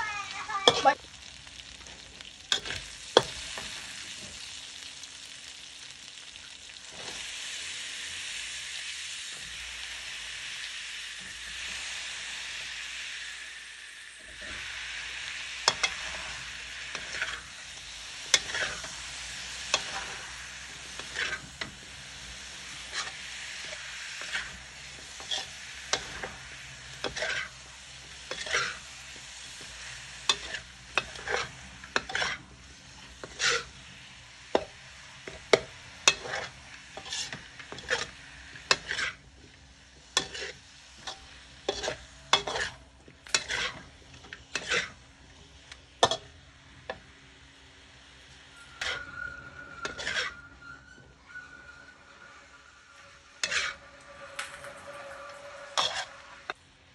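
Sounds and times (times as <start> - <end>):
metal spatula scraping a wok: 0.0 - 1.0, 1.6 - 5.4, 6.8 - 8.3, 9.2 - 13.4, 14.0 - 56.7
food sizzling: 0.0 - 56.9.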